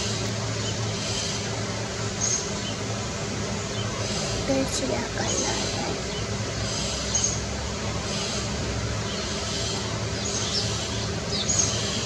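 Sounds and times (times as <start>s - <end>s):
low background rumble and hum: 0.0s - 12.0s.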